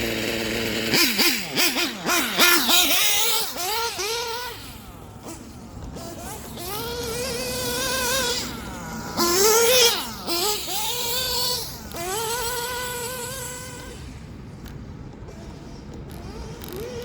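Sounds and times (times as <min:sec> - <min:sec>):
rc buggy nitro engine screaming: 0:00.0 - 0:14.3, 0:16.1 - 0:17.0.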